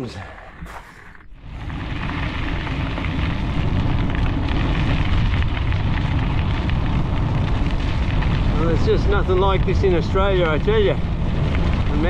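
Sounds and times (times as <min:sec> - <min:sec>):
bicycle tyres on gravel: 0:00.0 - 0:12.0
wind buffeting microphone: 0:00.0 - 0:12.0.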